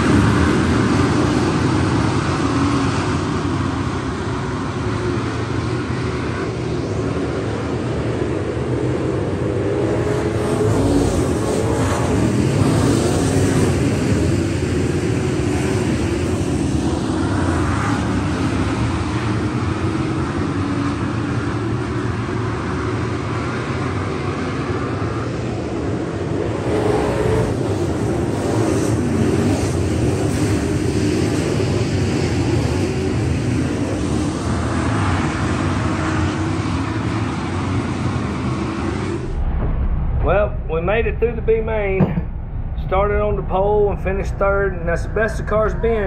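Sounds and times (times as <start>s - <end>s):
race car engines droning: 0.0s - 46.0s.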